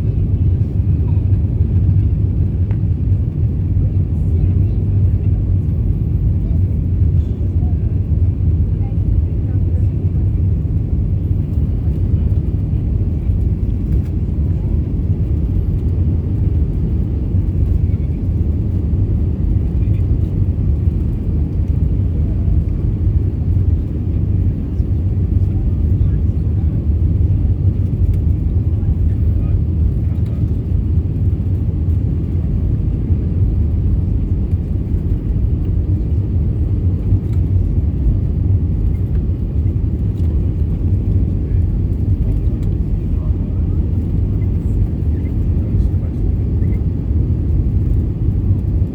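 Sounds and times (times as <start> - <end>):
airplane cabin rumble: 0.0 - 48.9.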